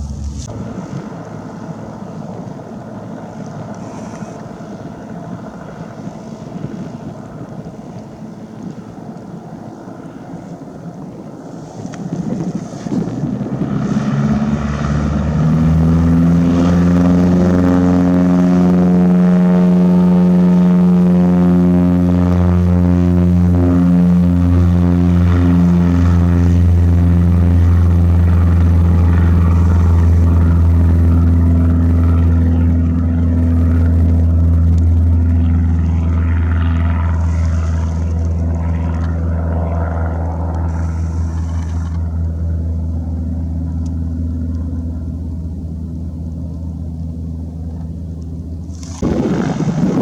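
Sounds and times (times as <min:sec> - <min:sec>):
propeller aircraft drone: 0:00.0 - 0:50.0.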